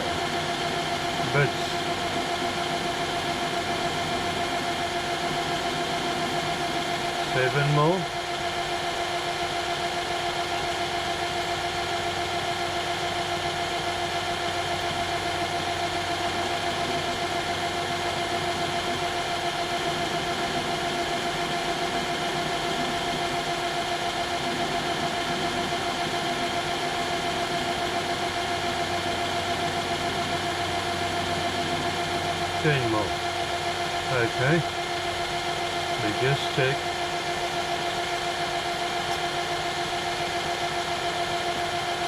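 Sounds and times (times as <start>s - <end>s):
metal lathe whine: 0.0s - 42.0s.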